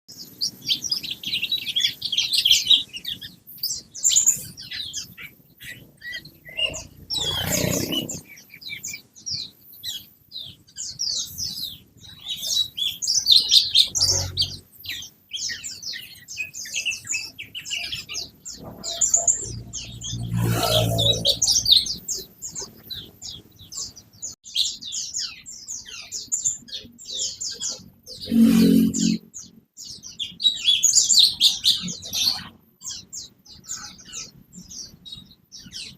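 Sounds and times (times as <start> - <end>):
songbird chirping and trilling: 0.1 - 35.9.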